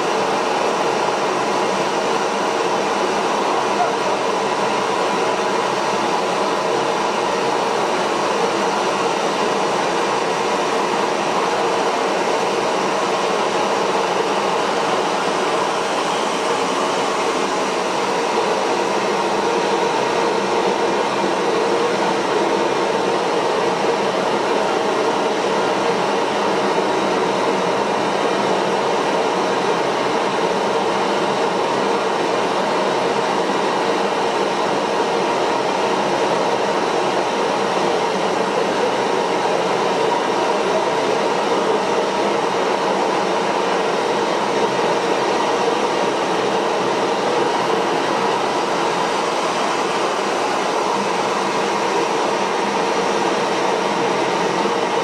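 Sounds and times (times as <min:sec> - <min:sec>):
small jet engine running: 0:00.0 - 0:55.0.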